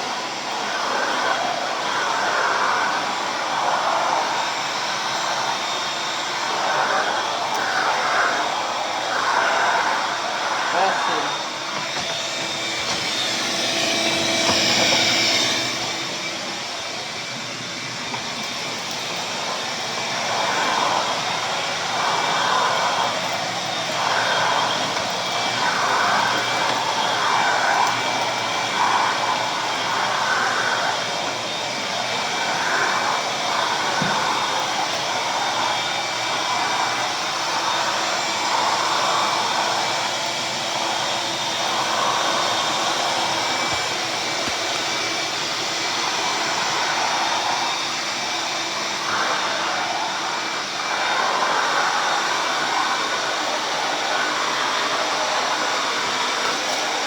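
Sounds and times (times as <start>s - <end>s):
shop vacuum running: 0.0s - 57.0s.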